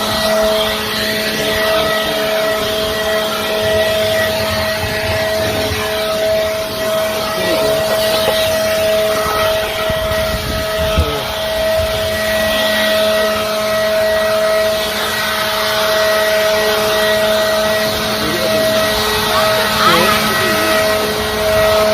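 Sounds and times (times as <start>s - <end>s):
leaf blower running: 0.0s - 21.9s.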